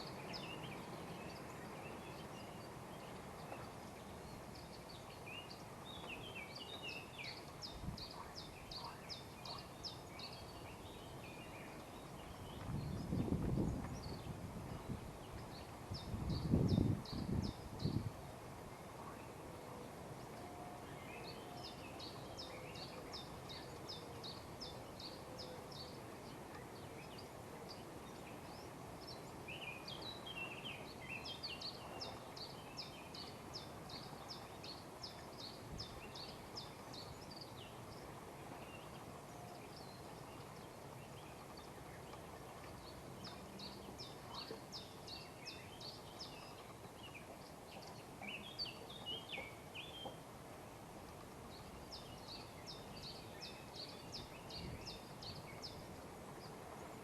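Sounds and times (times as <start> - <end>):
faint outdoor background hiss: 0.0 - 57.0
songbirds singing: 0.0 - 57.0.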